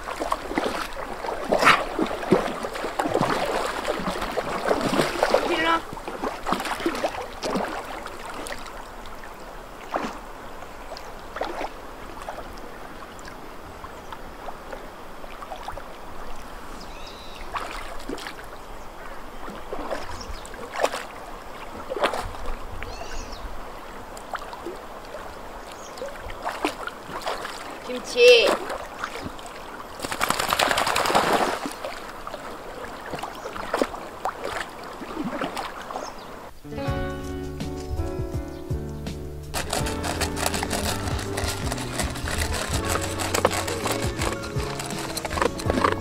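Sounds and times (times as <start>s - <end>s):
dogs splashing in water: 0.0s - 12.9s, 17.3s - 23.2s, 24.0s - 36.5s, 39.6s - 46.0s
shallow river running: 0.0s - 36.7s, 39.2s - 46.0s.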